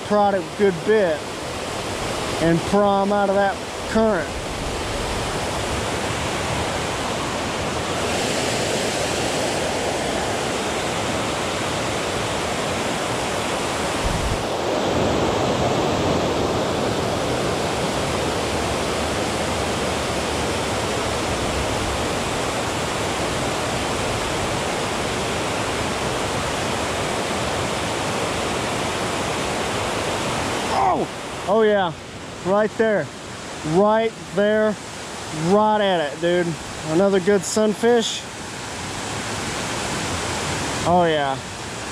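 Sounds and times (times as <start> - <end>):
water rushing over dam spillway: 0.0 - 41.9.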